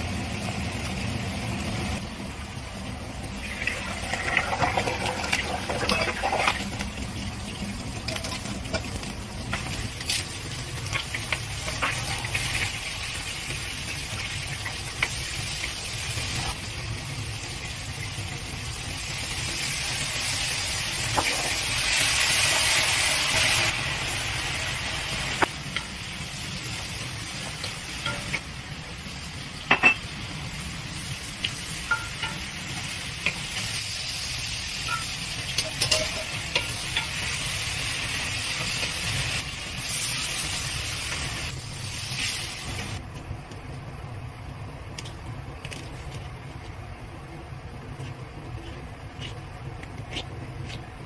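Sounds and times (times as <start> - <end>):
food sizzling in a wok: 0.0 - 43.1.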